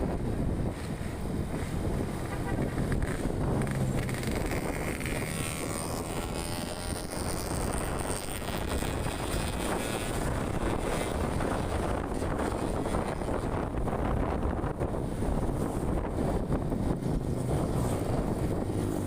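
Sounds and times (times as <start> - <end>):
vehicle engine and road rumble: 0.0 - 19.0
wind buffeting the microphone: 0.0 - 19.0.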